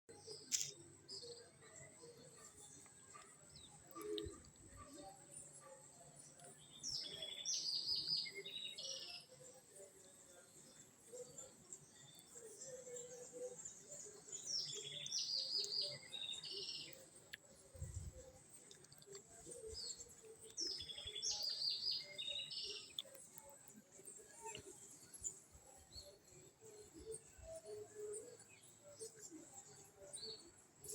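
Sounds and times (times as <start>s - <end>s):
songbird chirping: 0.1s - 30.9s.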